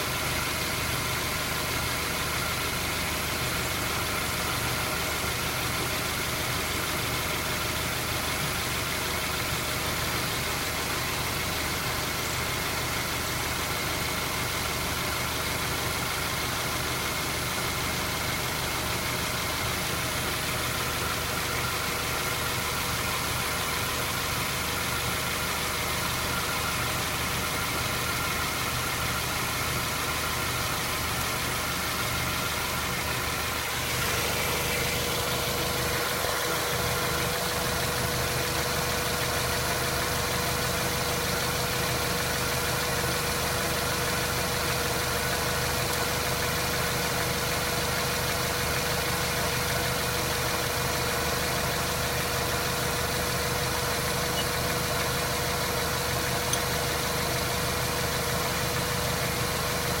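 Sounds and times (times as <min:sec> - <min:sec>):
car engine running: 0:00.0 - 1:00.0.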